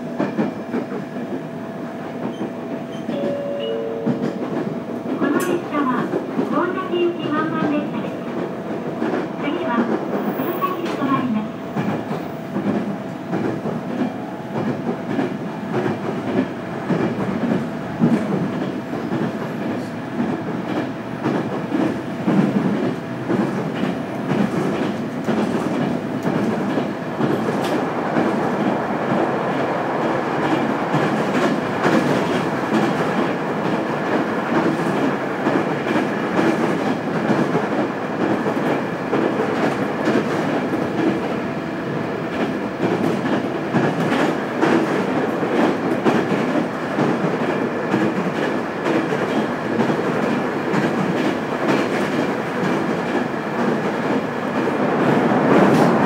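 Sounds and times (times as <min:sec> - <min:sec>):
clickety-clack of rail joints: 0:00.0 - 0:56.0
steady train hum: 0:00.0 - 0:56.0
wheels rumbling on rail: 0:00.0 - 0:56.0.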